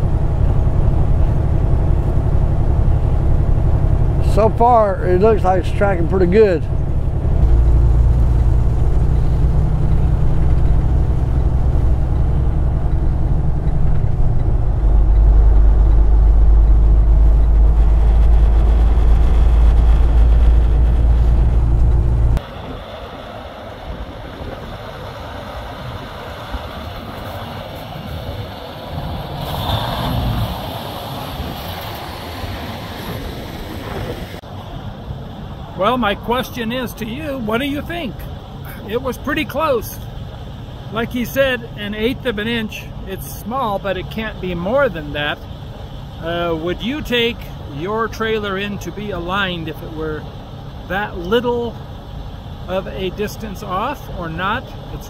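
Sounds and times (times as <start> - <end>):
outdoor noise: 0.0 - 55.0
road noise: 0.0 - 55.0
truck diesel engine drone: 0.0 - 55.0.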